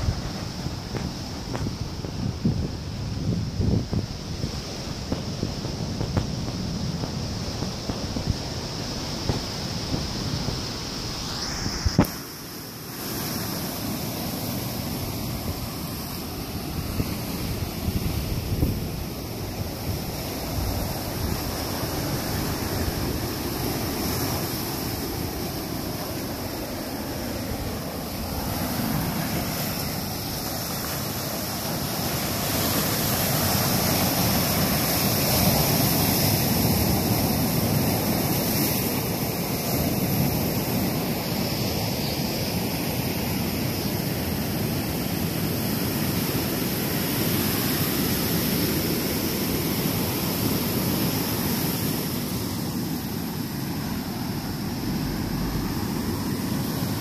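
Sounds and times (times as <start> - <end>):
ocean surf breaking on a beach: 0.0 - 57.0
wind rumbling on microphone: 0.0 - 57.0.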